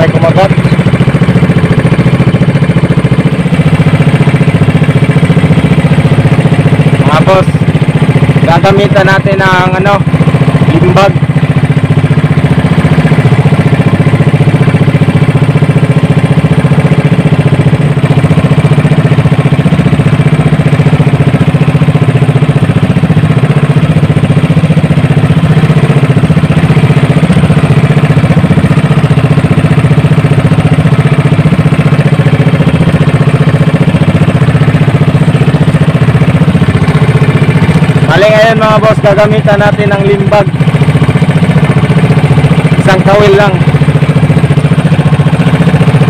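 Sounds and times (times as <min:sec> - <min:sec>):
small boat engine running: 0:00.0 - 0:46.0.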